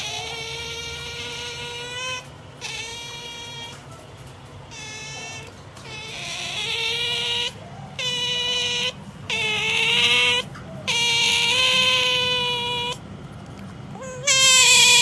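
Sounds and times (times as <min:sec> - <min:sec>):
otter high-pitched calls: 0:00.0 - 0:04.0, 0:04.6 - 0:13.0, 0:14.0 - 0:15.0.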